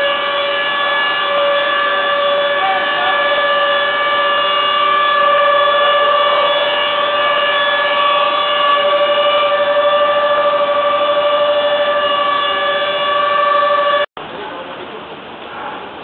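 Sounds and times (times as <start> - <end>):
machine hum: 0.0 - 14.1
machinery whine: 0.0 - 14.6.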